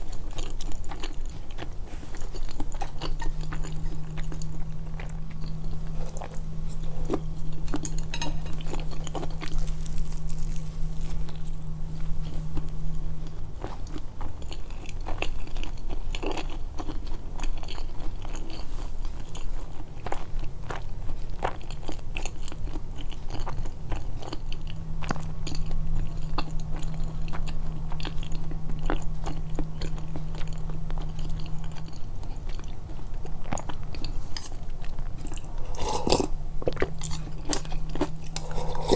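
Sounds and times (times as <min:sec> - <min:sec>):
chewing and biting crunches: 0:00.0 - 0:11.6, 0:12.2 - 0:38.9
low steady hum: 0:00.0 - 0:38.9.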